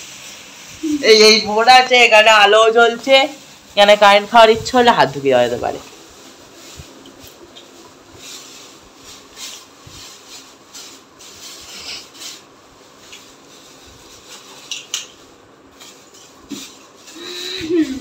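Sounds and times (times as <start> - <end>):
cloth rustling: 0.2 - 15.0.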